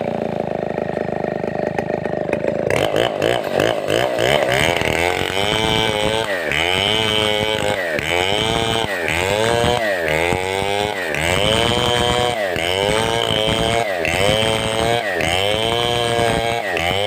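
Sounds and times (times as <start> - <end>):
chainsaw cutting timber: 0.0 - 17.0.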